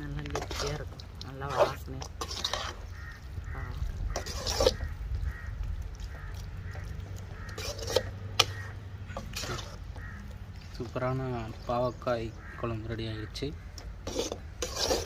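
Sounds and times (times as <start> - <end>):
ladle stirring thick curry: 0.0 - 15.0.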